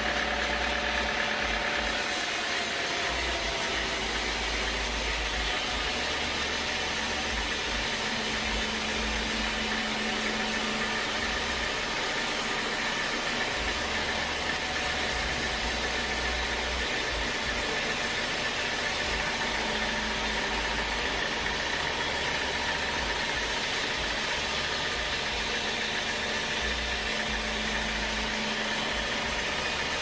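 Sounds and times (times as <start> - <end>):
sawmill machinery running: 0.0 - 30.0.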